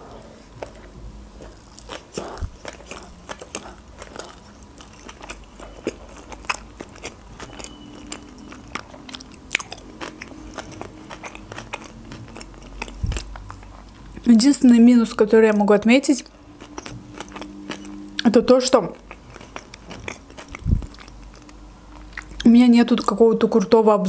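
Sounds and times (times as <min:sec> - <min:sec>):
person chewing: 0:00.0 - 0:14.3, 0:16.2 - 0:22.5.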